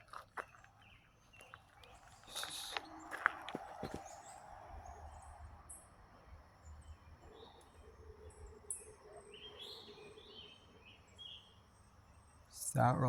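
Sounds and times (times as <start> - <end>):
birds chirping and warbling: 0.0 - 5.8, 6.4 - 12.9.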